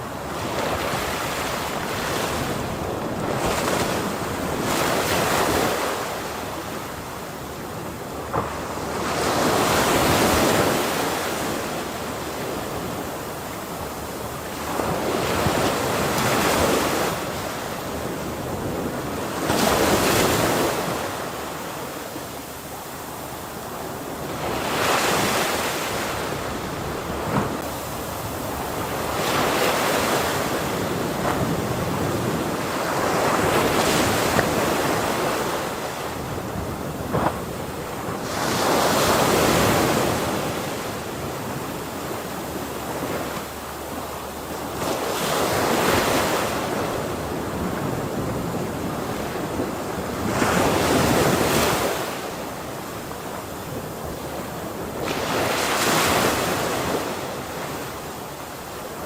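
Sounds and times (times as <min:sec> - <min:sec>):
ocean waves breaking on shore: 0:00.0 - 0:59.0
wind on microphone: 0:00.0 - 0:59.0.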